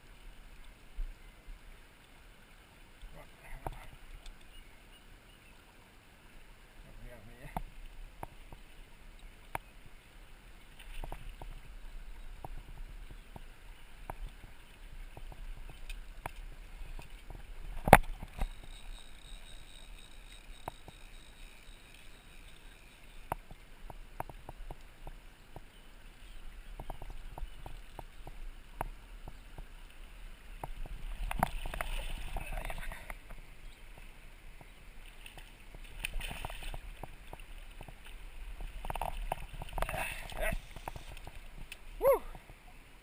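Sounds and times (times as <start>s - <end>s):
river water over stones: 0.0s - 43.0s.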